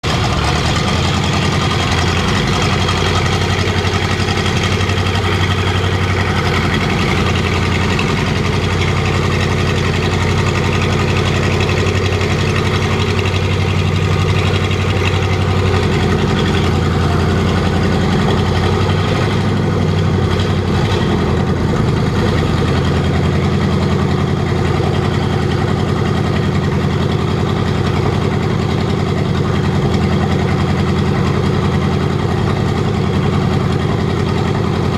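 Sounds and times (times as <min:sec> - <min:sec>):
petrol engine idling: 0:00.0 - 0:34.9.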